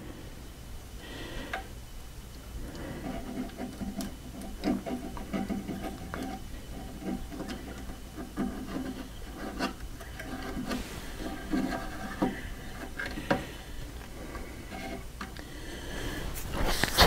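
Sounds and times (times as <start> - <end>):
hands rubbing and rustling wire: 2.4 - 17.0.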